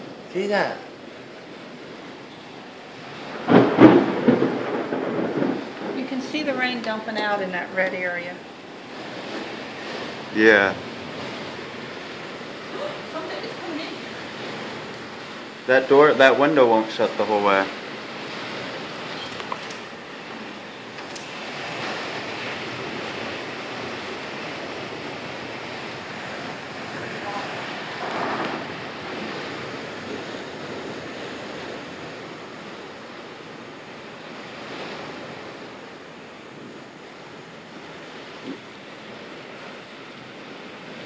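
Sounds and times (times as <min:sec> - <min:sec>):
heavy storm rain and wind: 0:00.0 - 0:41.0.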